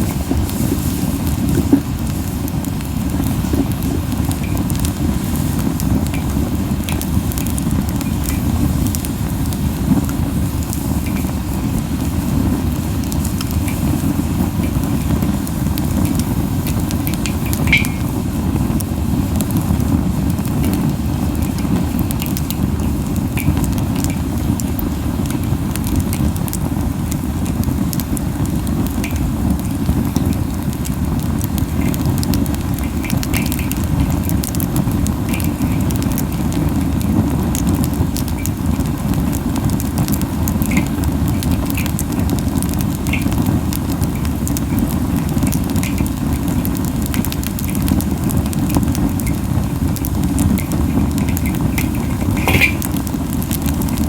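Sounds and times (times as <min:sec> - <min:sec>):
fire crackling and popping: 0:00.0 - 0:54.0
flames puffing: 0:00.0 - 0:54.0.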